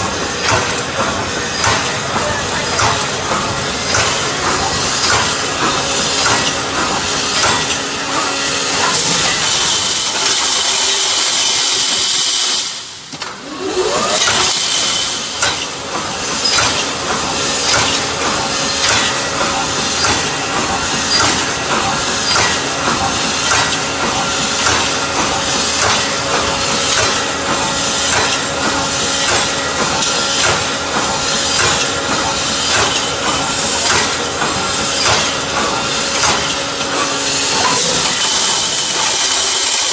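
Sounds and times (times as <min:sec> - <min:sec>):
welding machine clattering: 0:00.0 - 0:39.9.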